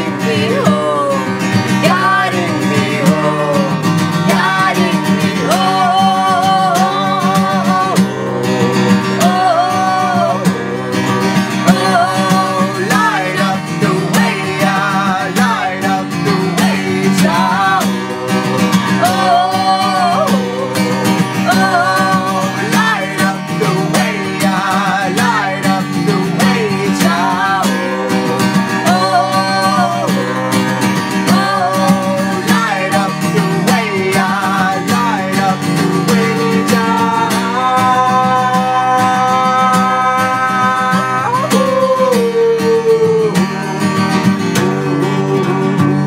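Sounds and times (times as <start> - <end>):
woman singing: 0.0 - 43.5
man singing: 0.0 - 43.7, 44.4 - 46.0
acoustic guitar: 0.0 - 46.0.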